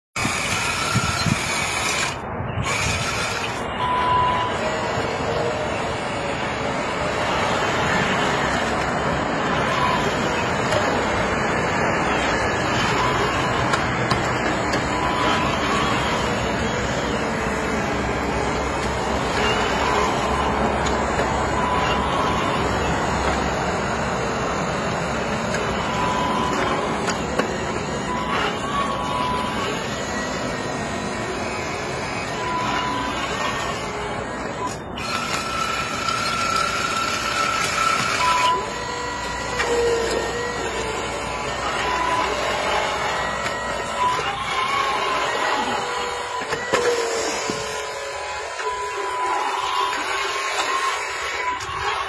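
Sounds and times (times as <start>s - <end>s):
model excavator running: 0.2s - 52.0s.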